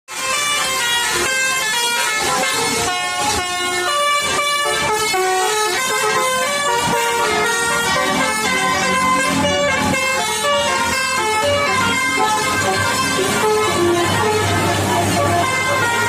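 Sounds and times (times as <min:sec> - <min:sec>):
bus air horns playing a tune: 0:00.1 - 0:16.0.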